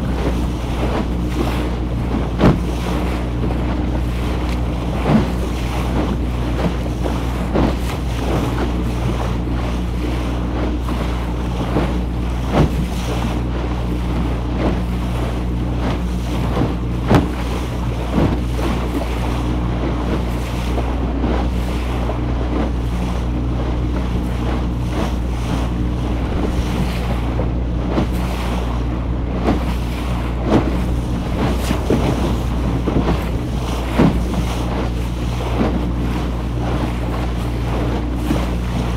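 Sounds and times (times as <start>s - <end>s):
motorboat engine humming: 0.0s - 38.9s
rushing water: 0.0s - 38.9s
waves splashing: 0.0s - 38.9s
wind buffeting microphone: 0.0s - 38.9s.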